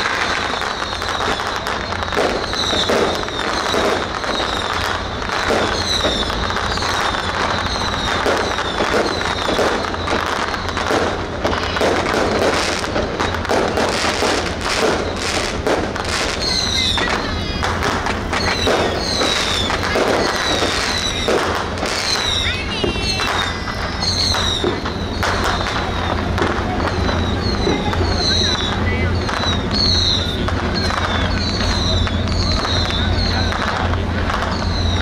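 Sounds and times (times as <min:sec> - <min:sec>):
firecrackers crackling: 0:00.0 - 0:35.0.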